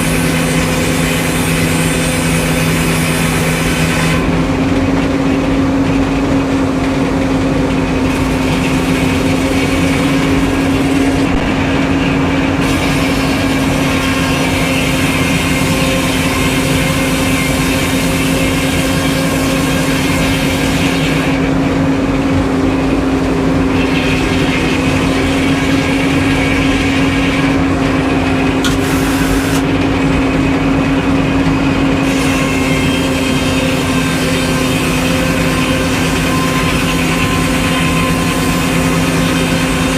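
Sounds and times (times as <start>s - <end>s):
engine humming steadily: 0.0s - 39.9s.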